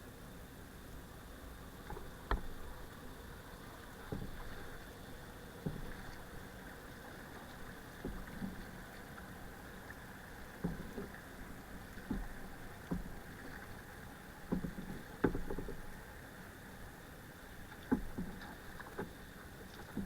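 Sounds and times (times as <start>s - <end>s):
paddle splashing in water: 1.9s - 9.8s, 10.4s - 16.1s, 17.5s - 20.0s.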